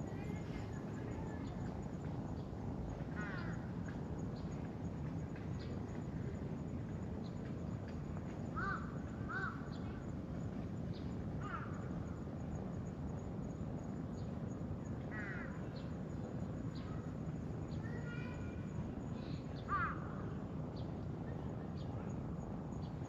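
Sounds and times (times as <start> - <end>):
low outdoor noise: 0.0 - 23.0.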